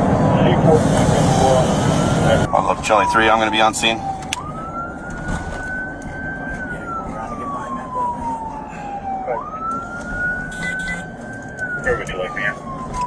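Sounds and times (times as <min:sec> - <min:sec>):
police siren wailing: 0:00.0 - 0:13.0
road noise: 0:00.0 - 0:13.0.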